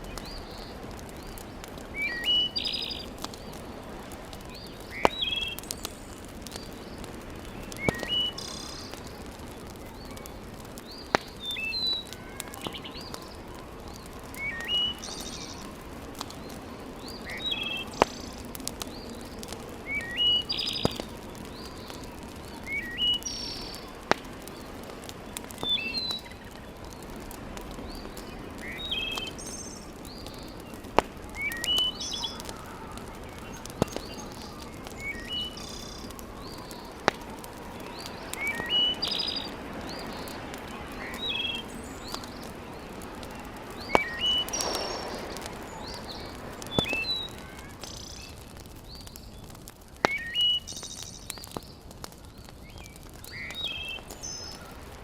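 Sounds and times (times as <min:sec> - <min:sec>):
small birds chirping: 0:00.0 - 0:54.9
wood fire popping: 0:00.0 - 0:55.0.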